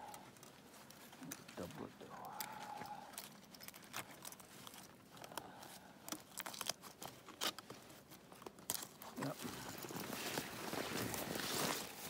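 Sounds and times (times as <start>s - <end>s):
gloved hands working wire: 0.0s - 12.0s.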